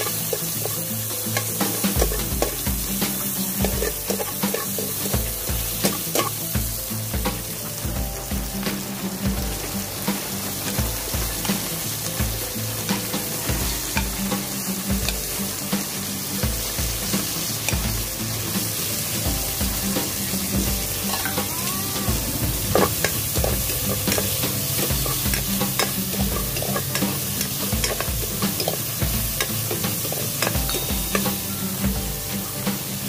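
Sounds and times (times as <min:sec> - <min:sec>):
vegetables sizzling in oil: 0:00.0 - 0:33.0.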